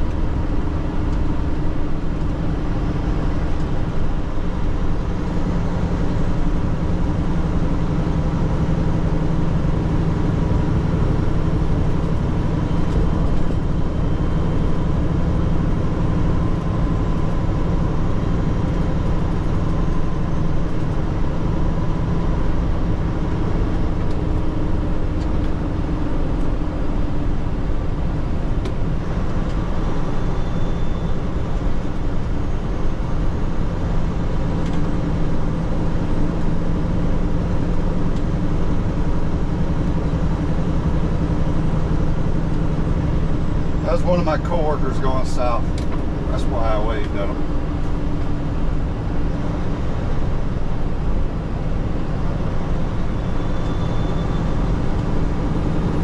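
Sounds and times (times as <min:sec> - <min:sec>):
diesel truck engine drone: 0:00.0 - 0:56.0
road and tyre noise: 0:00.0 - 0:56.0.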